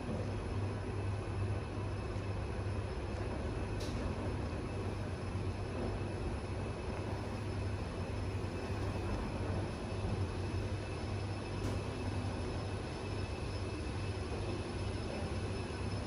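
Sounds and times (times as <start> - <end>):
lift low hum and rumble: 0.0 - 16.0.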